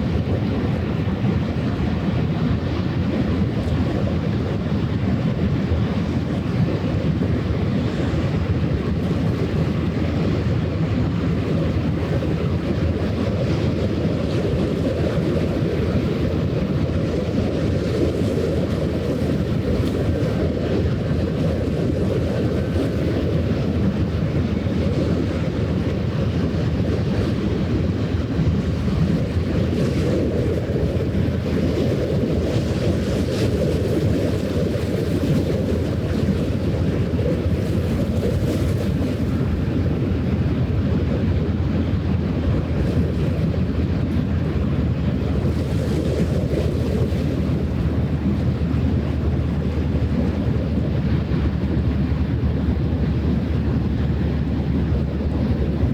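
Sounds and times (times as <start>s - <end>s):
water washing along shore: 0.0s - 55.9s
wind buffeting microphone: 0.0s - 55.9s.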